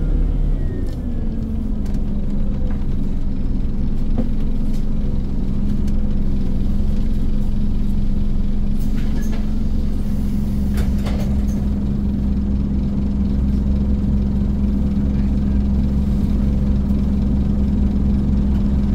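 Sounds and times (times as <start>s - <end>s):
bus diesel engine running: 0.0s - 18.9s.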